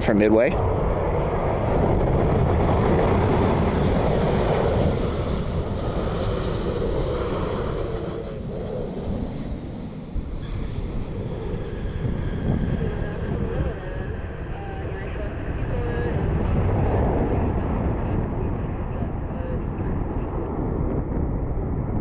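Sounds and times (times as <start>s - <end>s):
jet aircraft engines rumbling: 0.0s - 22.0s
wind buffeting microphone: 0.0s - 22.0s.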